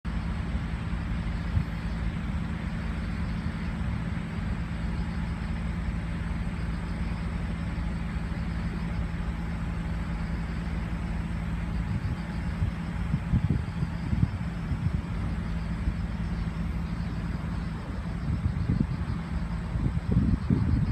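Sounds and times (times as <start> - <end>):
low engine hum: 0.0 - 20.9.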